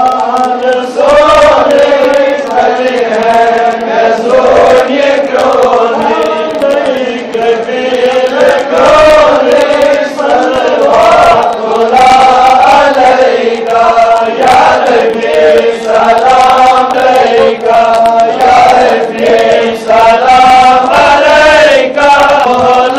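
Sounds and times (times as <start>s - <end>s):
men chanting in unison: 0.0s - 22.9s
steady held drone tone: 0.0s - 22.9s.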